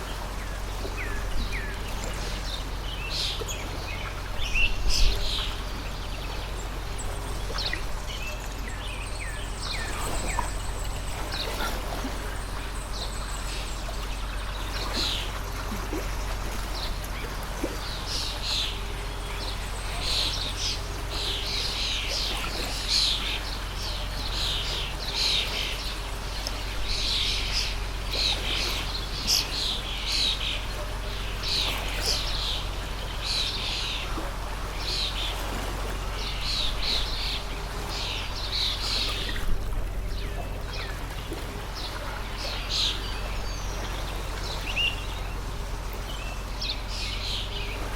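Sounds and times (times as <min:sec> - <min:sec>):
small birds chirping: 0:00.0 - 0:47.9
water stream rushing: 0:00.0 - 0:47.9.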